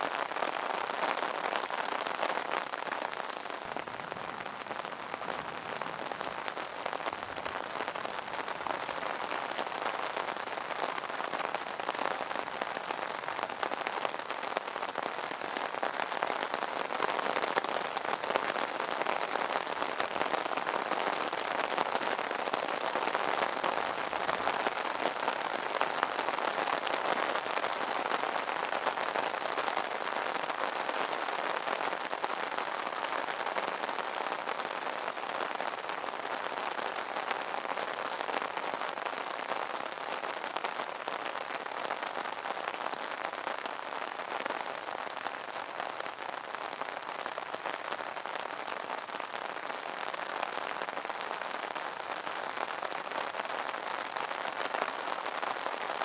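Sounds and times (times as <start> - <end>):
rain pattering on an umbrella: 0.0 - 56.0.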